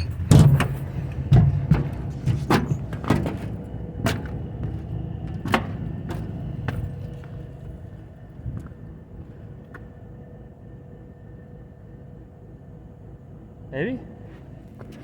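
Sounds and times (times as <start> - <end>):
diesel engine cranking: 0.0 - 13.6
low rumble of locomotive machinery: 0.0 - 15.0.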